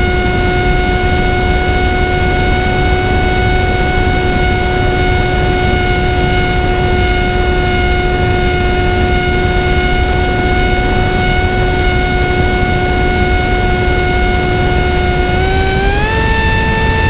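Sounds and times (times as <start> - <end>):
electric motor whine: 0.0 - 17.0
wind rumble on microphone: 0.0 - 17.0.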